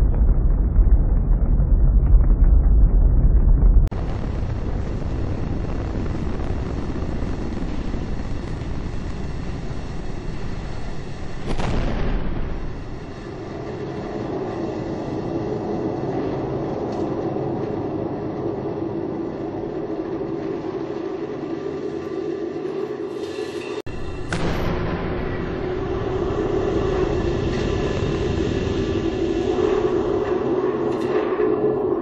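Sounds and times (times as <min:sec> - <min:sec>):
deep rocket rumble: 0:00.0 - 0:22.1, 0:23.9 - 0:32.0
higher engine drone: 0:00.0 - 0:23.1, 0:23.9 - 0:32.0.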